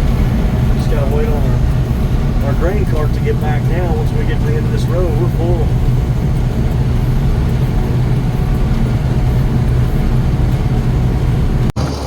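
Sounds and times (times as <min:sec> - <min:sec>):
combine harvester droning: 0:00.0 - 0:12.0
low steady drone: 0:00.0 - 0:12.0.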